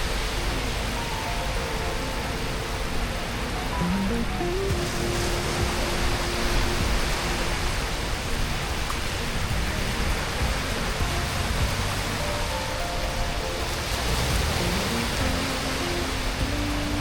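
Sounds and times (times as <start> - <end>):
faint background music: 0.0 - 17.0
steady rushing noise: 0.0 - 17.0.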